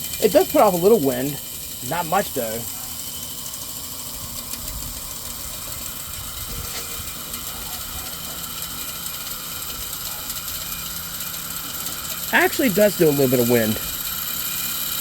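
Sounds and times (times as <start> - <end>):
fan motor hum: 0.0 - 15.0
whir of spinning rim: 0.0 - 15.0.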